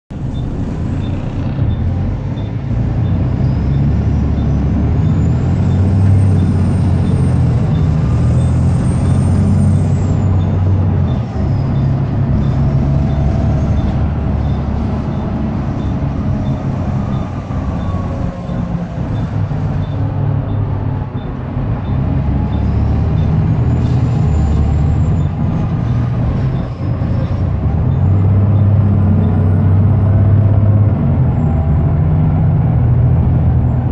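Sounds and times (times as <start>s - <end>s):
bus diesel engine droning: 0.1s - 33.9s.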